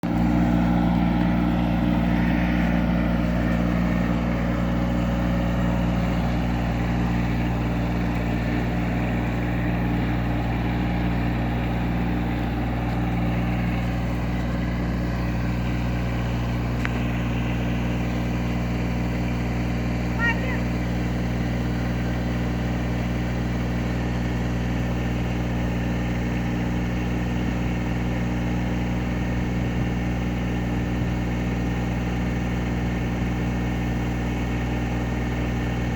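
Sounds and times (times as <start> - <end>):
tractor engine droning: 0.0 - 35.9.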